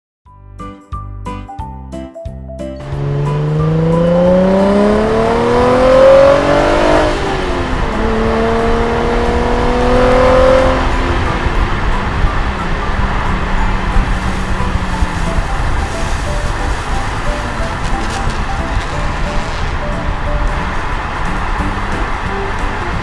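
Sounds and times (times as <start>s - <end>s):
road noise rumble: 2.8s - 23.0s
sports car engine accelerating: 2.8s - 23.0s.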